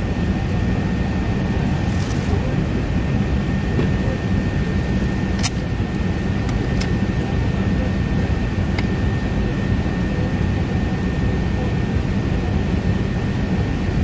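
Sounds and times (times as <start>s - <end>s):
jet engine and runway rumble: 0.0s - 14.0s
thin steady whine: 0.0s - 14.0s.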